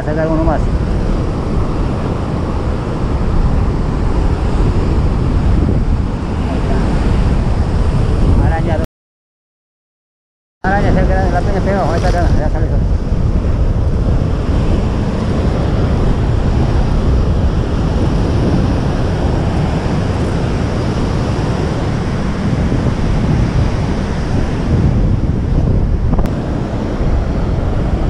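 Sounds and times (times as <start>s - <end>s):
wind buffeting microphone: 0.0s - 8.8s, 10.6s - 28.0s.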